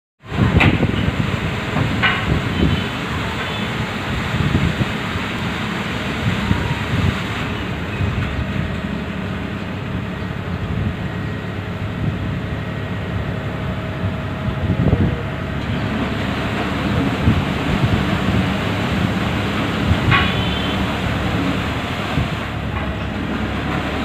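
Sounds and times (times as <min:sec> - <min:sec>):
boat engine running: 0:00.2 - 0:24.0
paddle wheels churning water: 0:00.2 - 0:24.0.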